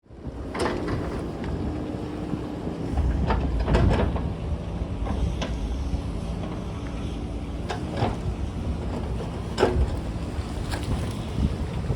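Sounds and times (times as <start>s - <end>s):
diesel engine under load: 0.2s - 11.9s.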